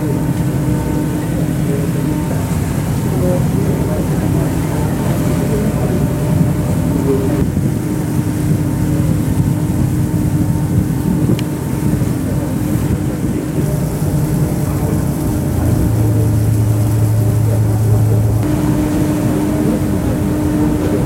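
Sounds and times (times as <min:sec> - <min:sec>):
ferry engines droning: 0:00.0 - 0:21.0.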